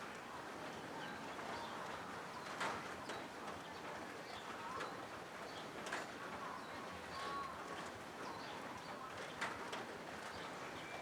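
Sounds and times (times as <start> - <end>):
rain on a metal roof: 0.0 - 11.0.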